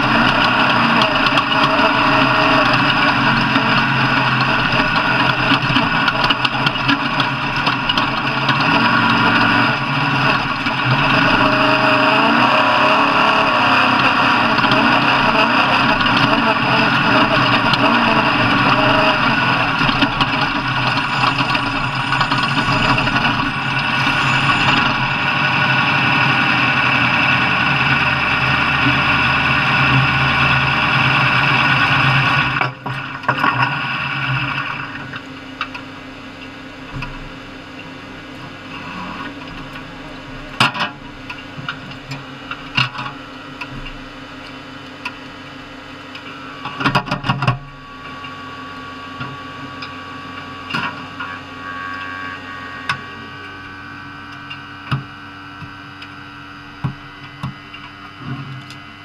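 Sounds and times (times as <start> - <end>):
engine running loudly: 0.0 - 59.0.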